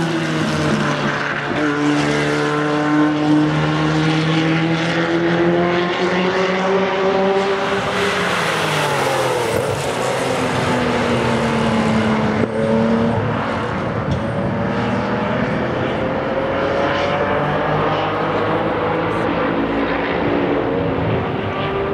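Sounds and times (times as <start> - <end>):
racing car engines passing: 0.0 - 21.9.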